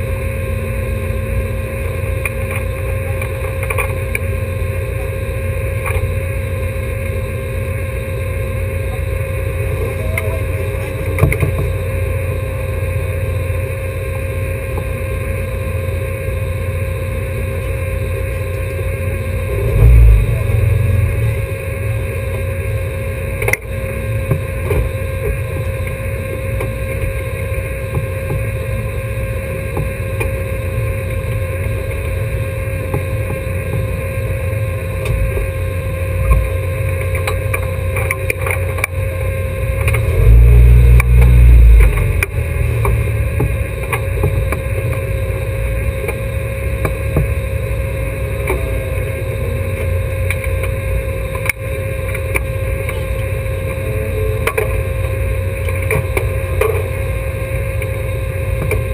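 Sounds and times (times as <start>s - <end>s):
race car engine idling: 0.0s - 58.9s.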